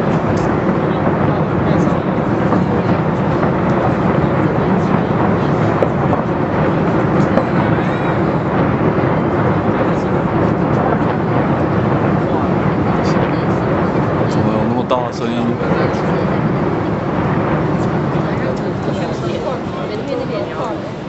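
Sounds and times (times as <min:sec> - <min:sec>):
crowd voices: 0:00.0 - 0:21.0
fireworks rumbling bursts: 0:00.0 - 0:21.0.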